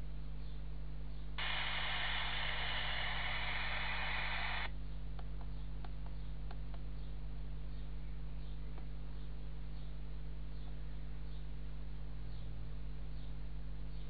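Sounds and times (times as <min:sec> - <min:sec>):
white-noise static hiss: 0:00.0 - 0:14.0.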